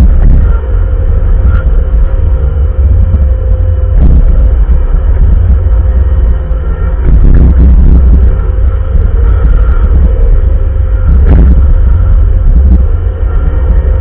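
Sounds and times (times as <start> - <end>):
diesel engine rumbling under load: 0.0 - 14.0
steady engine whine: 0.0 - 14.0.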